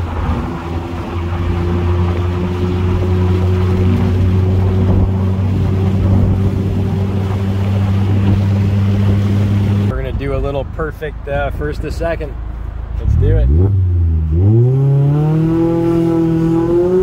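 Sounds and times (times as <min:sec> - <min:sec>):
car engine and exhaust: 0:00.0 - 0:17.0.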